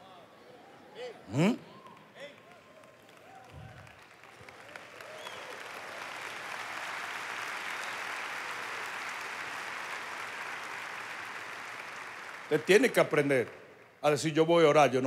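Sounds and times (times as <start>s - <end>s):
congregation applauding: 1.3s - 14.4s.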